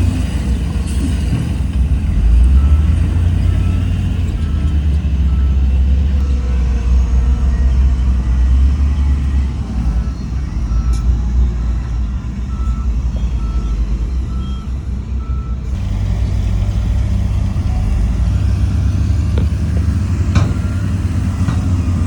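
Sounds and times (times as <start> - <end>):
diesel heavy equipment running: 0.0 - 22.0
reversing alarm beeping: 2.0 - 22.0.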